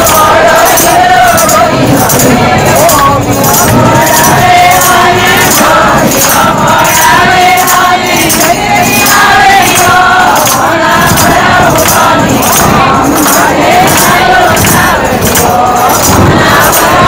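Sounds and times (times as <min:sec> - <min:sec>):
rhythmic hand-clapping: 0:00.0 - 0:17.0
women singing a devotional song: 0:00.0 - 0:17.0.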